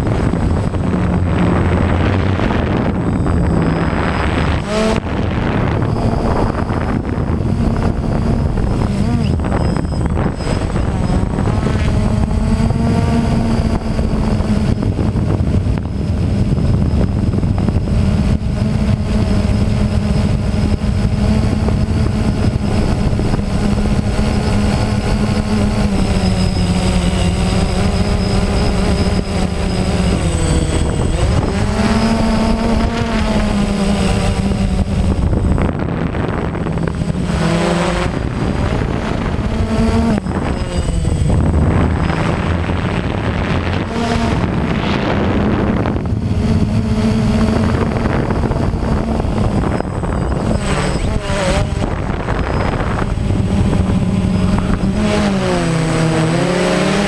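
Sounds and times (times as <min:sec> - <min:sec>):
drone motor and propellers humming: 0:00.0 - 0:57.0.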